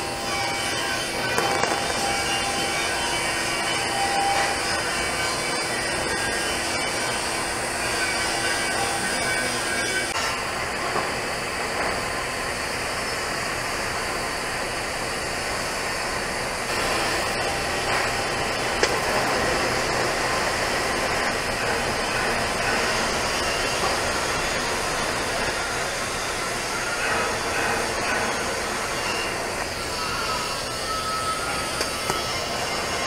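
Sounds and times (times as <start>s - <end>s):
welding arc hissing: 0.0s - 33.0s.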